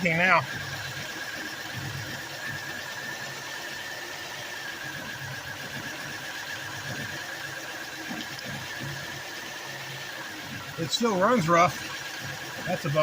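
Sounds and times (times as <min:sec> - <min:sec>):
car engine idling rough: 0:00.0 - 0:13.0
steady high whine: 0:00.0 - 0:13.0.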